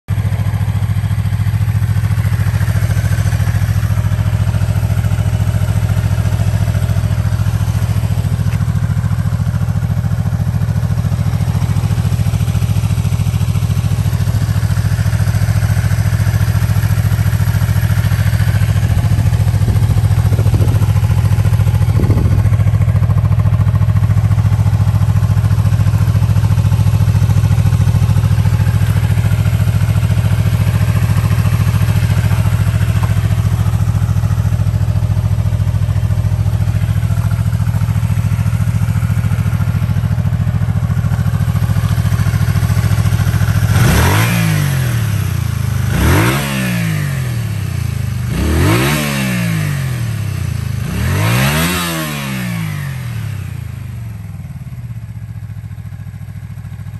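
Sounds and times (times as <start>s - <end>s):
motorcycle engine idling and revving: 0.0s - 56.9s.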